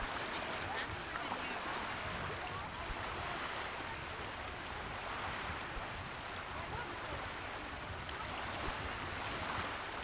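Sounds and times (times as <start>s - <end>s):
lake water rushing: 0.0s - 10.0s
wind: 0.0s - 10.0s.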